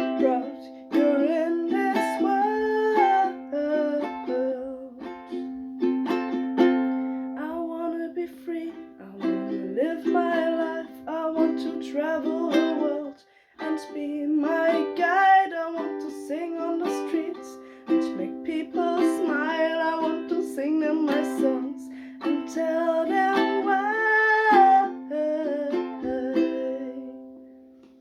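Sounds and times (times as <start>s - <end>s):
man singing pop song: 0.0s - 4.4s, 7.4s - 27.0s
strummed acoustic string instrument: 0.0s - 28.0s.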